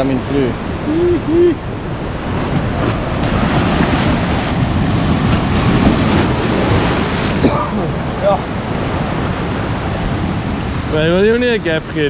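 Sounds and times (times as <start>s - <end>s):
ocean waves rushing: 0.0s - 12.0s.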